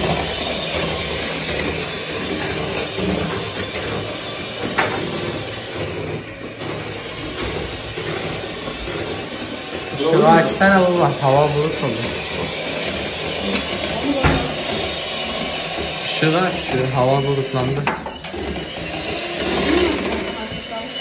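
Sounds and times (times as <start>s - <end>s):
electric mixer motor whirring: 0.0s - 21.0s.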